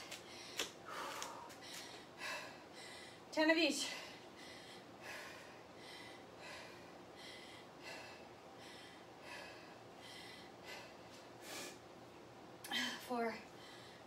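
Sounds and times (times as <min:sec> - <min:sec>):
woman breathing quickly: 0:00.0 - 0:11.9, 0:12.7 - 0:14.0.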